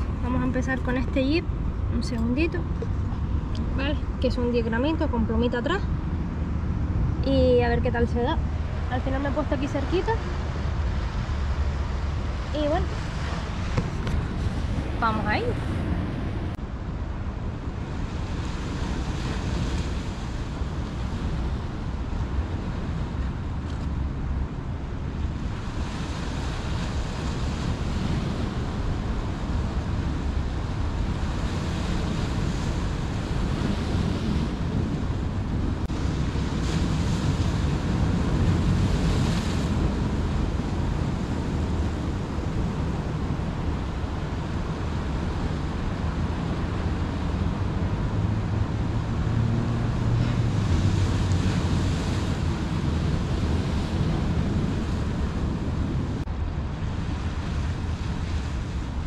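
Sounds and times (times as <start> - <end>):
low rumble of the sea: 0.0 - 59.0.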